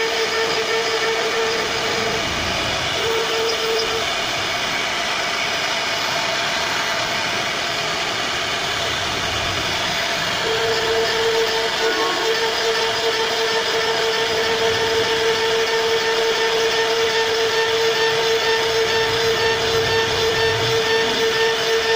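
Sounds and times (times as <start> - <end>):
router spindle whine: 0.0 - 21.9
low hum: 0.5 - 21.9.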